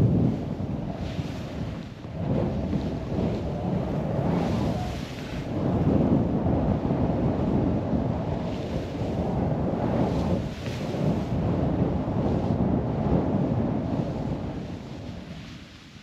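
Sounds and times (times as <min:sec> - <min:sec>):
rush of riding through snow: 0:00.0 - 0:16.0
wind buffeting microphone: 0:00.0 - 0:16.0.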